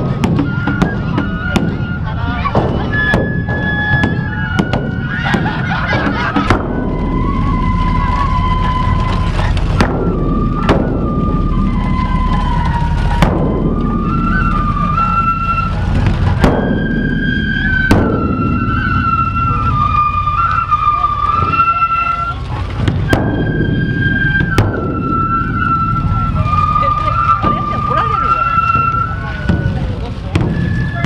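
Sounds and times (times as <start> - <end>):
bamboo flute melody: 0.0 - 31.0
large drum struck with sticks: 0.0 - 31.0.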